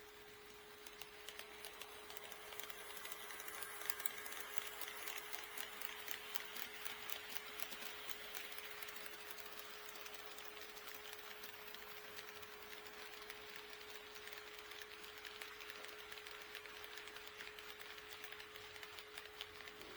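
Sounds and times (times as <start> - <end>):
model train motor whirring: 0.0 - 19.9.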